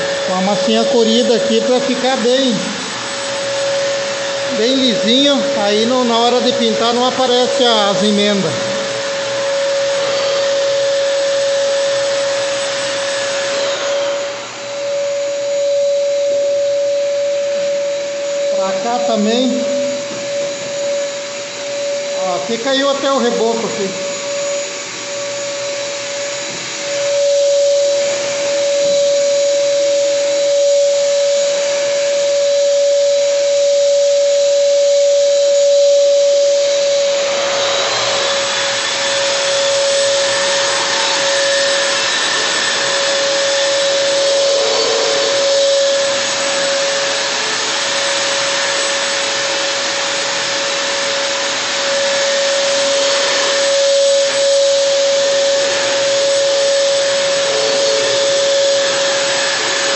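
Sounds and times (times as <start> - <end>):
dust extraction vacuum hiss: 0.0 - 59.9
wall sander whining: 0.0 - 59.9.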